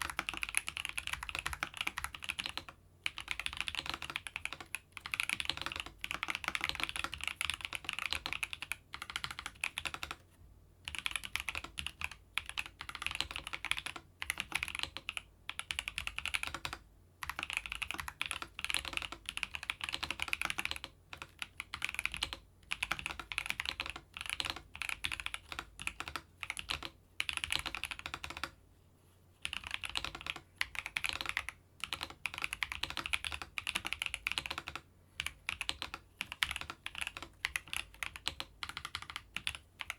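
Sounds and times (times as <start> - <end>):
mechanical keyboard typing: 0.0 - 10.2, 10.8 - 28.6, 29.4 - 39.9.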